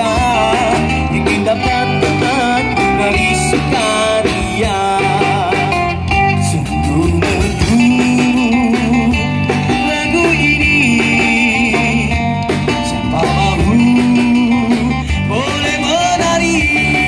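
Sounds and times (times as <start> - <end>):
bass guitar: 0.0 - 17.0
drum kit: 0.0 - 17.0
lead guitar with bent notes: 0.0 - 17.0.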